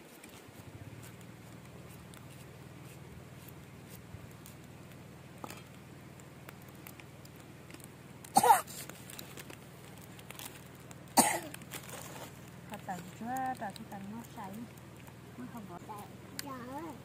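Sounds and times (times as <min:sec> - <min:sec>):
water boiling in a pot: 0:00.0 - 0:17.0
wood fire crackling: 0:00.0 - 0:17.0.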